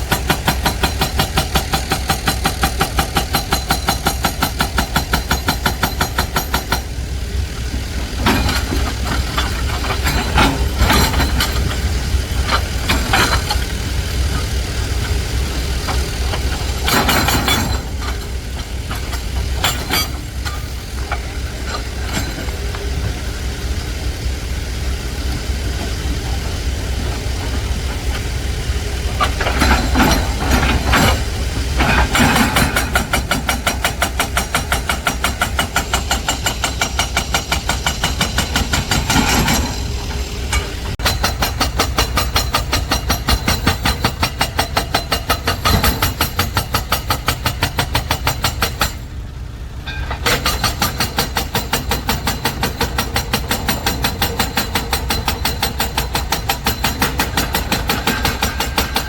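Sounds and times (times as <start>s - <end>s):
truck diesel engine rumbling: 0.0s - 59.0s.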